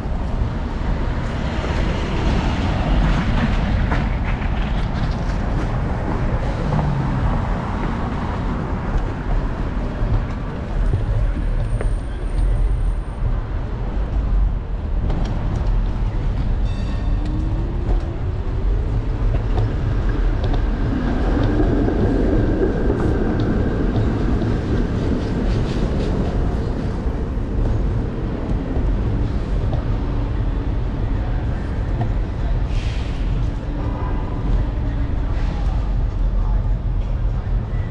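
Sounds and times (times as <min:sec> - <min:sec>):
electric scooter rumble: 0:00.0 - 0:37.9
streetcar on rails: 0:00.0 - 0:37.9.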